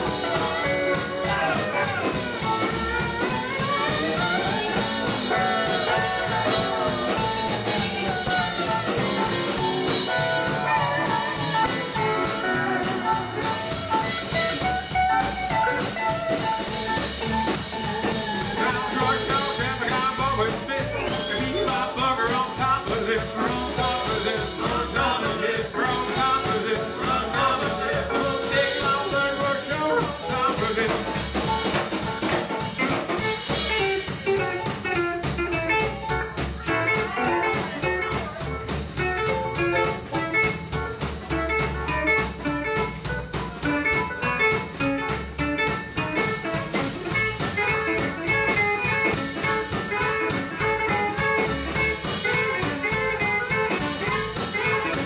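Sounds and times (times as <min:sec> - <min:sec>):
drum kit beat: 0:00.0 - 0:55.0
guitar: 0:00.0 - 0:55.0
western swing band playing: 0:00.0 - 0:55.0.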